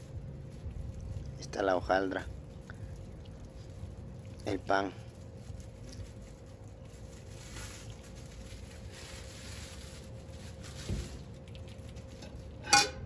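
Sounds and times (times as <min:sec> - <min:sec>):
faint steady hum: 0:00.0 - 0:13.0
plastic bag rustling: 0:00.0 - 0:13.0.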